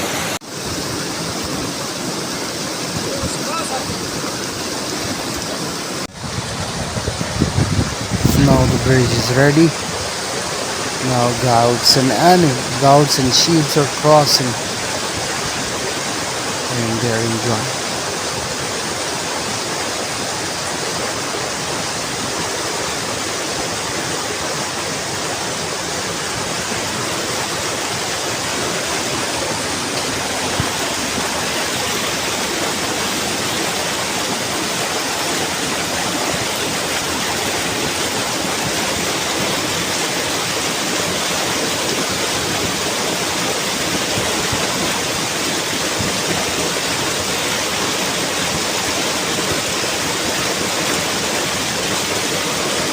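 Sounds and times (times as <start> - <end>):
mountain stream rushing: 0.0 - 52.9.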